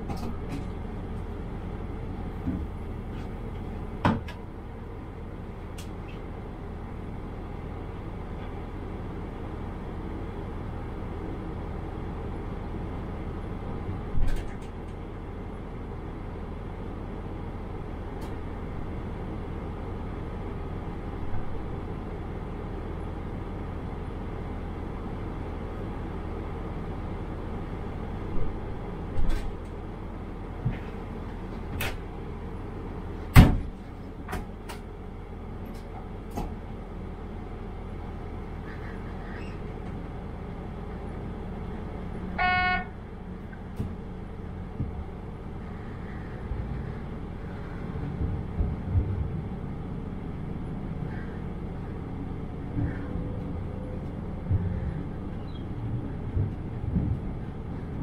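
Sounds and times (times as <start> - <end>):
diesel train engine idling: 0.0 - 58.0.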